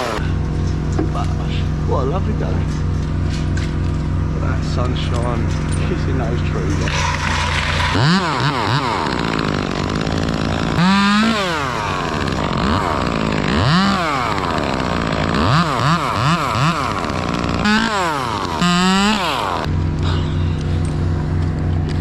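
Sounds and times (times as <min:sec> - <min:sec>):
chainsaw revving and idling: 0:00.0 - 0:22.0.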